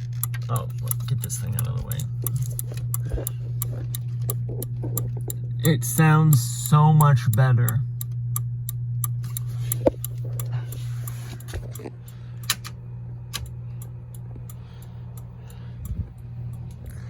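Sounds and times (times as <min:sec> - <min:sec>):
flasher relay clicking: 0:00.0 - 0:17.0
steady low hum: 0:00.0 - 0:17.0.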